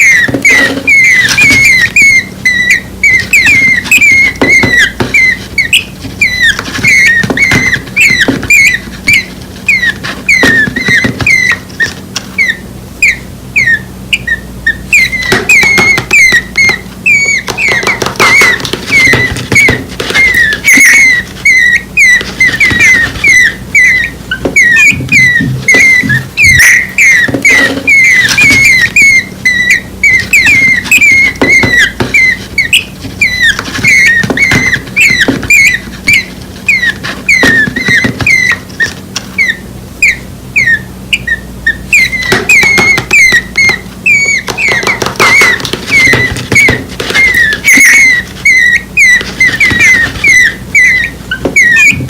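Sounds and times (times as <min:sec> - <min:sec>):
nestlings begging chirps: 0:00.0 - 0:52.0.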